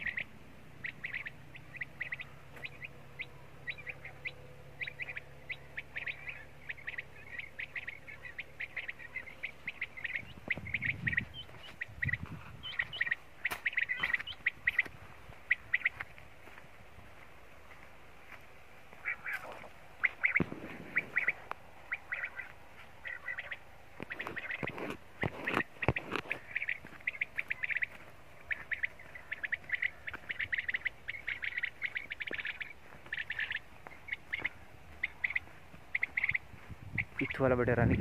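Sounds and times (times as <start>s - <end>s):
quail chirping: 0.0s - 38.0s.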